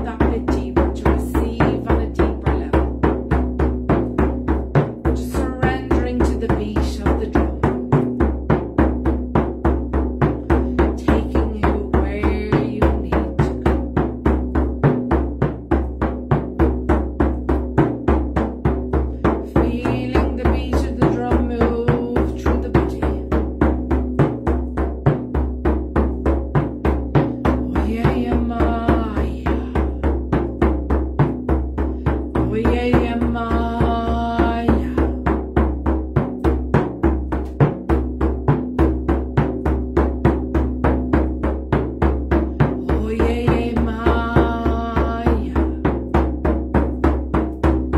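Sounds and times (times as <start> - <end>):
frame drum struck with a beater: 0.0 - 47.9.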